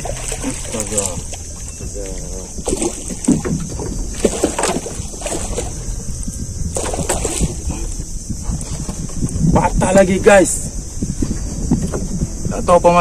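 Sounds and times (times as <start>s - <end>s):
knocks and handling in boat: 0.0s - 13.0s
water sloshing against hull: 0.0s - 13.0s.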